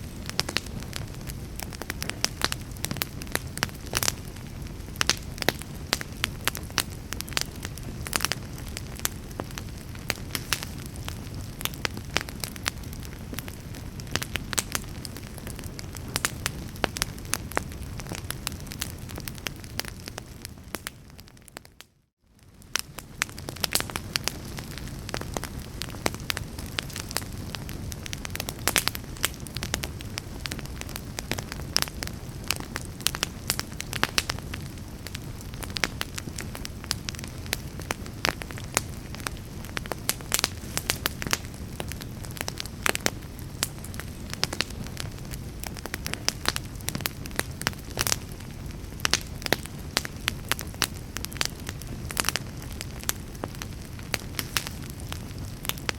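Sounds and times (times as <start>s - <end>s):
fire crackling and popping: 0.0s - 55.9s
low rumble of flame: 0.0s - 55.9s.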